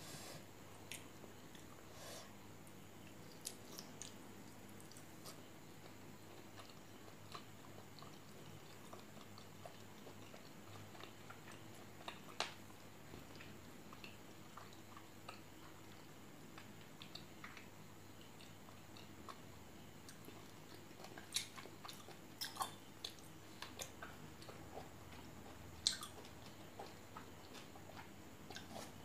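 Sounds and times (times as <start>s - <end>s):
faint chewing and mouth smacks: 0.7s - 1.9s, 2.6s - 29.0s.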